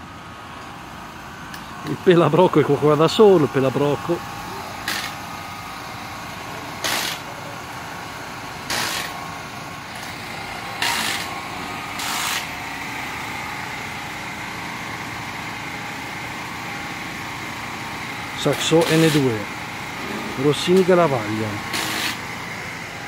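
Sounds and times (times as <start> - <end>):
steady mechanical hum: 0.0 - 23.0
power tool running: 0.1 - 23.0.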